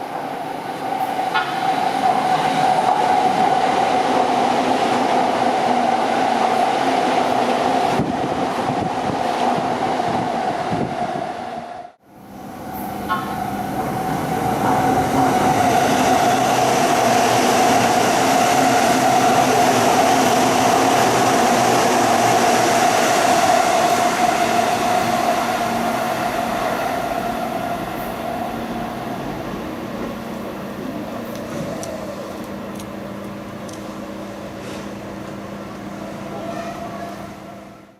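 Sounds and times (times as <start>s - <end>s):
electric train rumbling past: 0.0s - 37.9s.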